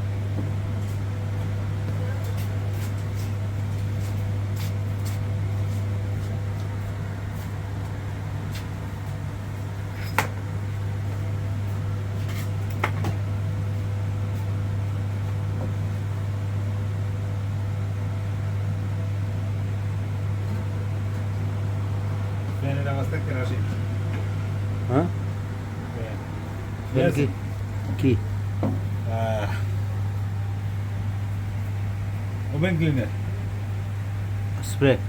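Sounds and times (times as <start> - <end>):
kitchen machinery humming: 0.0 - 35.0.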